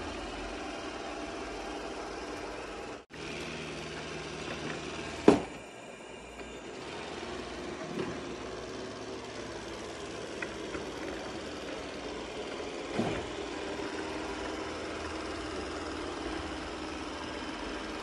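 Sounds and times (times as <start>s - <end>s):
robot vacuum humming: 0.0s - 18.0s.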